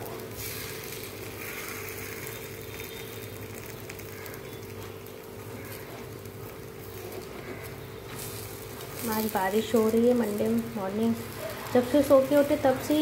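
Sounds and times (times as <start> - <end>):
batter sizzling in a pan: 0.0 - 13.0.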